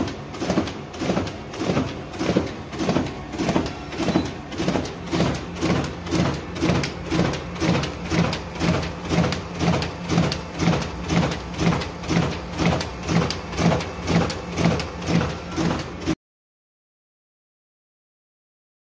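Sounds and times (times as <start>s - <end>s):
duplicator printing sheets: 0.0s - 16.2s.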